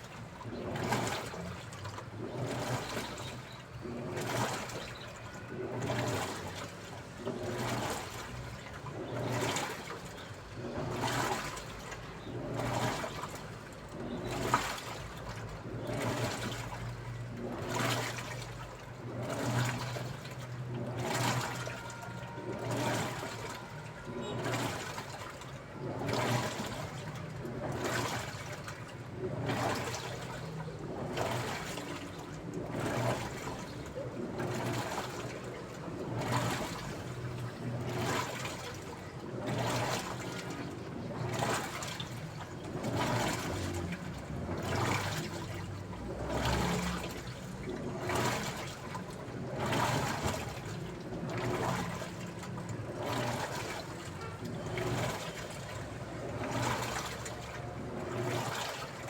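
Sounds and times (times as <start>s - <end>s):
washing machine motor hum: 0.0s - 59.0s
water swishing in drum: 0.0s - 59.0s.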